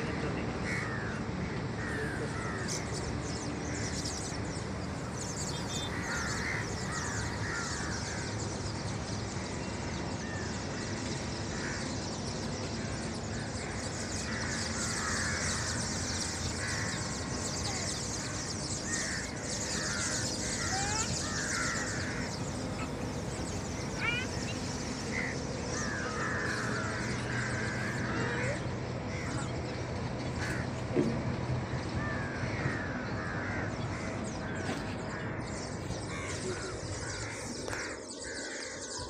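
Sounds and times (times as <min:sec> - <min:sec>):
flock of starlings chattering: 0:00.0 - 0:39.0.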